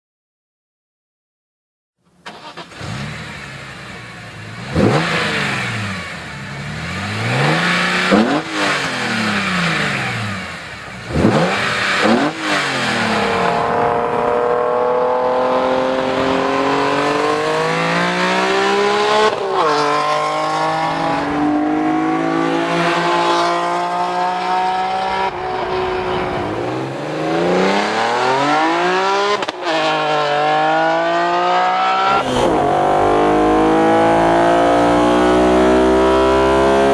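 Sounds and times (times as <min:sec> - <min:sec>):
car engine revving and accelerating: 0:02.3 - 0:36.9.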